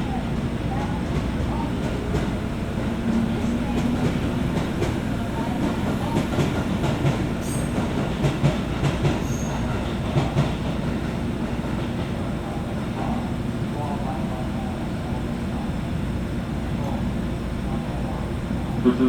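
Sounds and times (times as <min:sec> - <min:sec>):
train car low rumble: 0:00.0 - 0:19.0.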